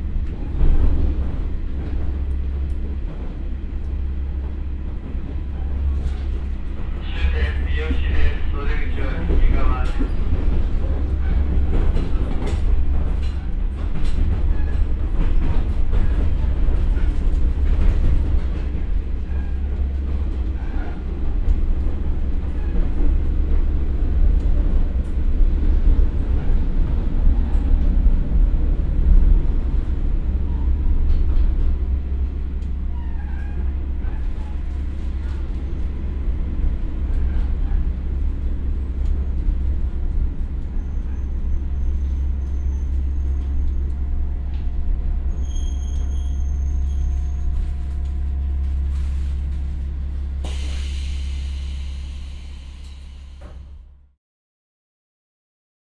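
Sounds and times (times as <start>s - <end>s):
train engine rumble: 0.0s - 54.2s.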